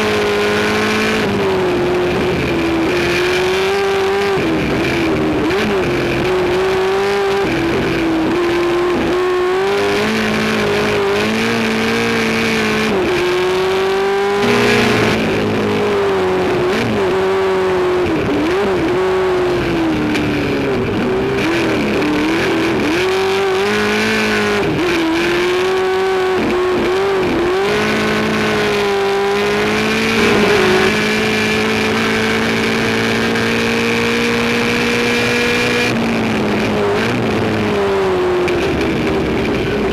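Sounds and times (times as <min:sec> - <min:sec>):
race car engine revving: 0:00.0 - 0:19.8, 0:21.4 - 0:35.9.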